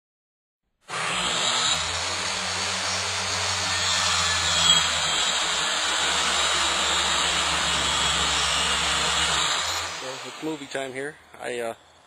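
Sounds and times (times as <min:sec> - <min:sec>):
loud steady hiss: 0:01.8 - 0:12.0
low hum: 0:01.9 - 0:12.0.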